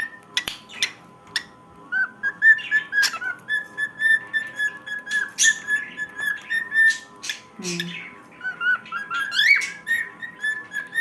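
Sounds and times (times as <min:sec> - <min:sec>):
cockatiel whistling: 0:00.0 - 0:07.8, 0:08.4 - 0:11.0
cockatiel chirps: 0:00.0 - 0:11.0.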